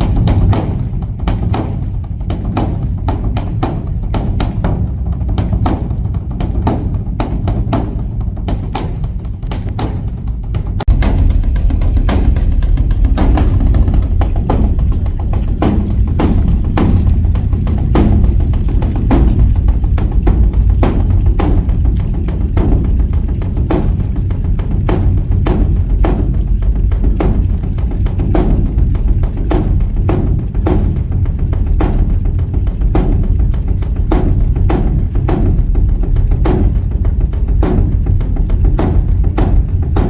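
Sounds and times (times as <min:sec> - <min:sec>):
deep continuous boom: 0:00.0 - 0:40.0
large drum strikes: 0:00.0 - 0:40.0.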